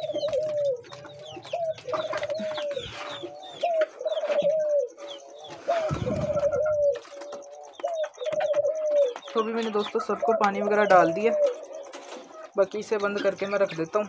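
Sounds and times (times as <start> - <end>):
budgerigars chirping: 0.0 - 14.0
doves cooing: 0.0 - 14.0.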